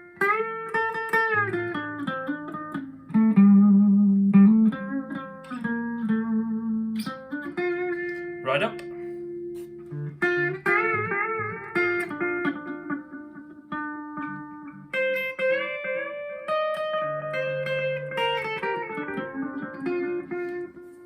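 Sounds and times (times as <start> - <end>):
electric guitar with delay: 0.0 - 21.0.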